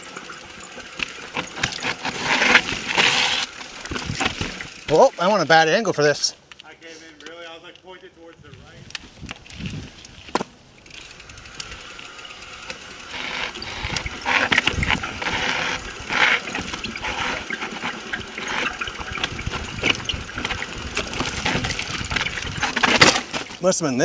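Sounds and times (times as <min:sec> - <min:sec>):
bike rattling over bumps: 0:00.0 - 0:06.3, 0:08.9 - 0:24.0
bike tyres rolling on rock: 0:00.0 - 0:06.6, 0:07.2 - 0:24.0.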